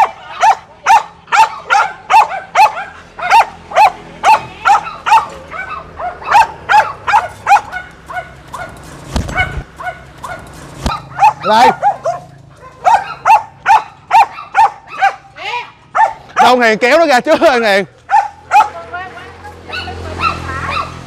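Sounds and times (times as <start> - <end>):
dog barking rapidly: 0.0 - 16.6, 18.1 - 18.9, 19.7 - 21.0.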